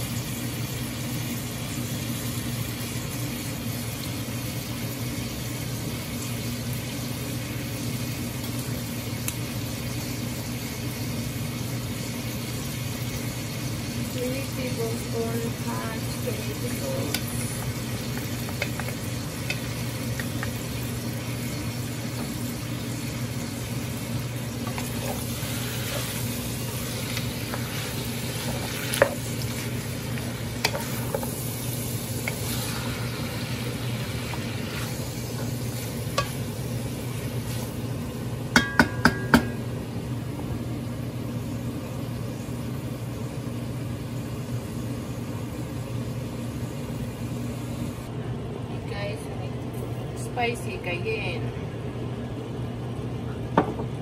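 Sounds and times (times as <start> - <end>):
food sizzling in a pot: 0.0 - 48.1.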